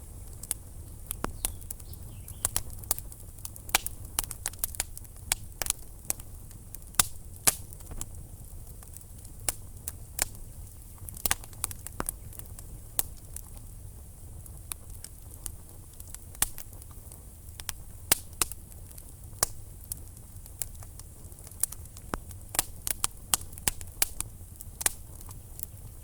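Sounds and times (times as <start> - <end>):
low rumble of flames: 0.0 - 26.0
wood fire crackling and popping: 0.0 - 26.0.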